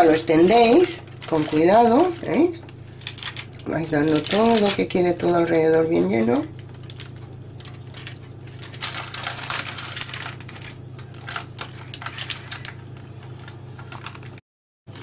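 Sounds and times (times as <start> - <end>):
paper crinkling: 0.0 - 15.0
steady low hum: 0.0 - 15.0.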